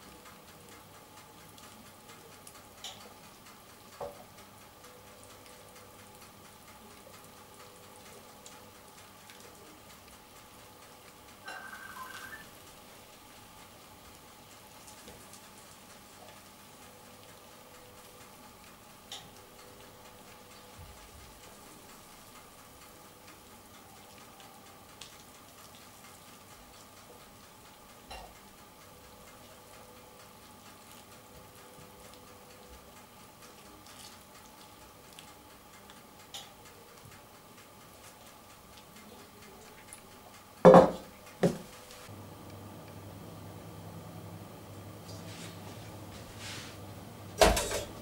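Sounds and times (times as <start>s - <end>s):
pastry crackling under syrup: 0.0s - 42.1s.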